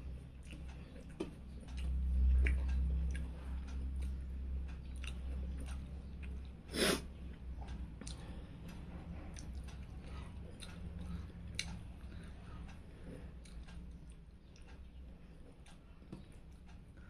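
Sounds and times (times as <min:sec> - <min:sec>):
chewing and wet mouth clicks: 0:00.2 - 0:06.6, 0:07.2 - 0:17.0.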